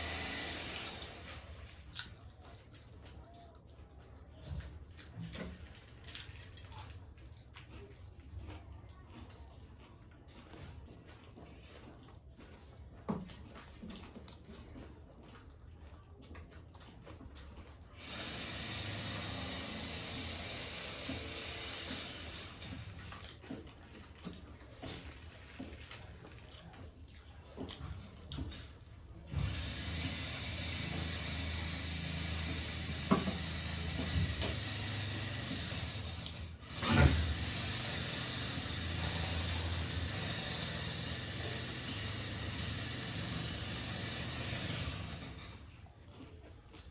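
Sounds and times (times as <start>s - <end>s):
chewing crunchy snacks: 0.0s - 46.9s.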